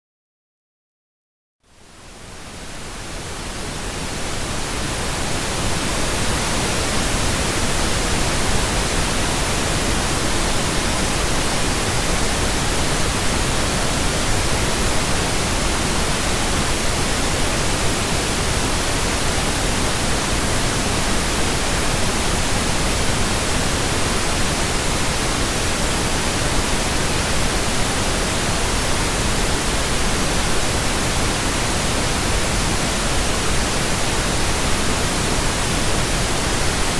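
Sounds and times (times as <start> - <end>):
pink noise hiss: 1.7 - 36.9.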